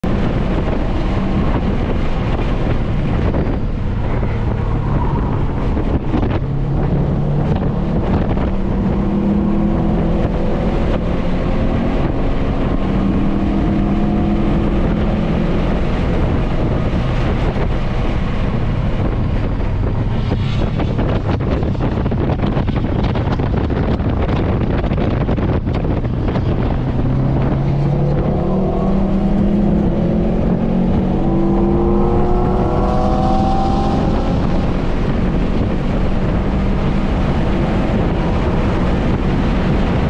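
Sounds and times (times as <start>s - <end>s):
car engine accelerating: 0.0s - 40.0s
road and wind rush: 0.0s - 40.0s.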